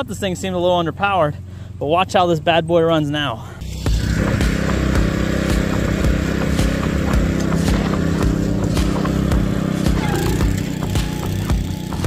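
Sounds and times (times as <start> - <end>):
aerator engine running: 0.0 - 12.0.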